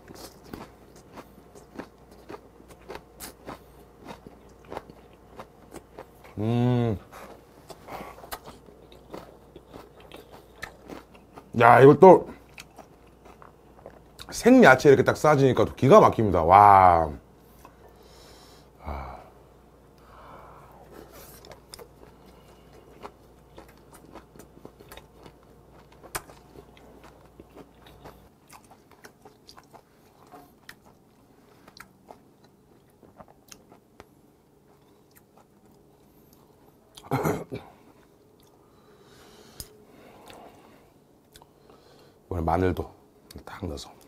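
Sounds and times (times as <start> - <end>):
person chewing and crunching food: 0.0 - 14.5, 19.9 - 42.2.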